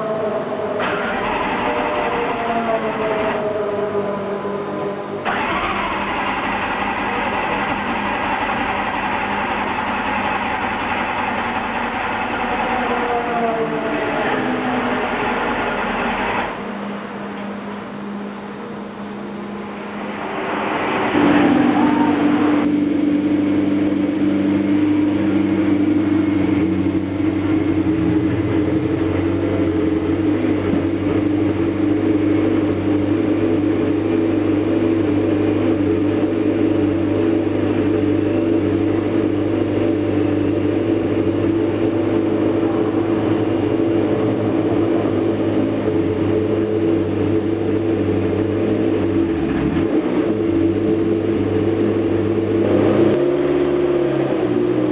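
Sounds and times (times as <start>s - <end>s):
race car engine revving and idling: 0.0s - 54.9s.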